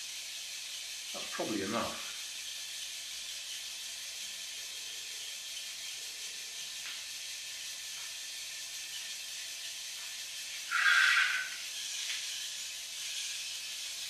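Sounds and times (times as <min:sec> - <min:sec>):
toy car motor whining: 0:00.0 - 0:14.0.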